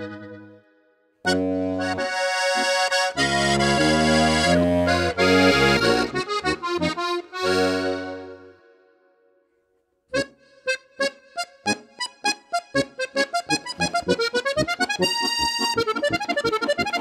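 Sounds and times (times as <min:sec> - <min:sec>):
button accordion playing: 0:00.0 - 0:08.8, 0:10.1 - 0:17.0.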